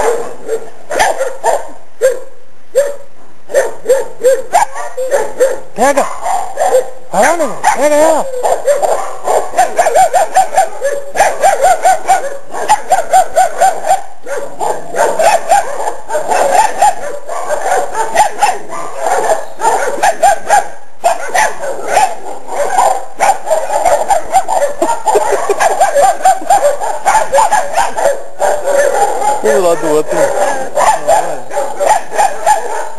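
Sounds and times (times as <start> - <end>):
dogs barking and yapping: 0.0 - 32.9.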